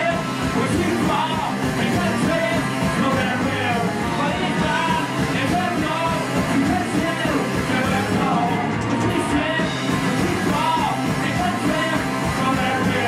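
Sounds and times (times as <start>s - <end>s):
drums: 0.0s - 13.0s
electric guitars: 0.0s - 13.0s
singer shouting and singing: 0.0s - 13.0s.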